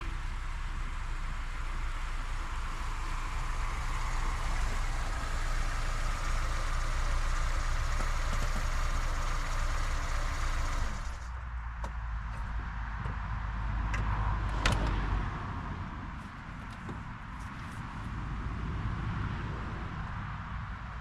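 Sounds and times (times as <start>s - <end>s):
motor vehicle humming: 0.0s - 21.0s.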